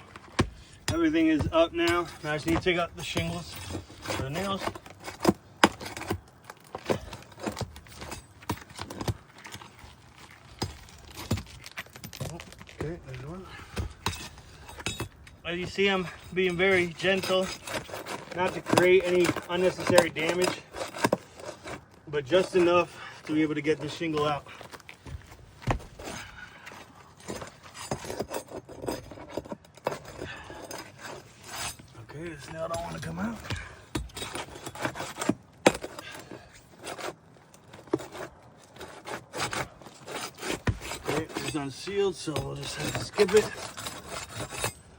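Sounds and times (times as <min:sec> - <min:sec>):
pry bar tapping on roof shingles: 0:00.0 - 0:44.8.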